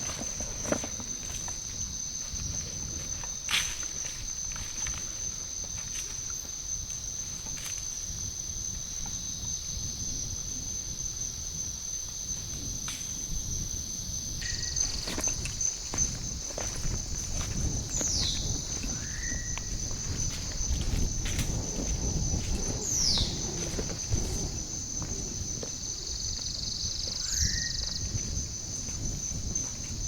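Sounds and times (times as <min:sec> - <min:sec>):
insects buzzing high-pitched: 0:00.0 - 0:30.0
pulsing insect call: 0:00.0 - 0:30.0.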